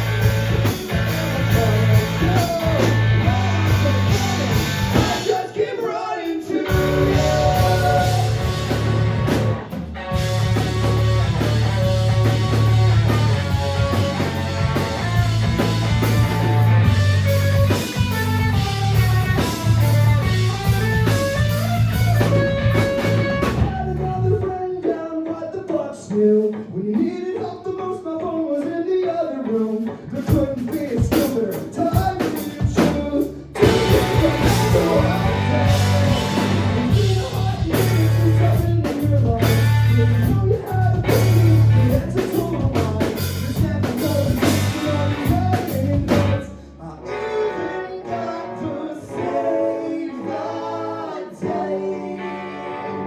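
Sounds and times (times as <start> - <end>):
live rock band playing: 0.0 - 24.6, 29.5 - 49.7.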